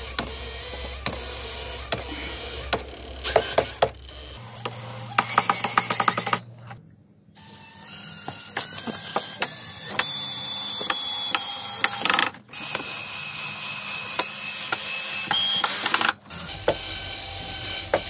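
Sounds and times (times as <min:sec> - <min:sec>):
cordless drill boring into wood: 0:00.0 - 0:06.4, 0:07.4 - 0:18.0.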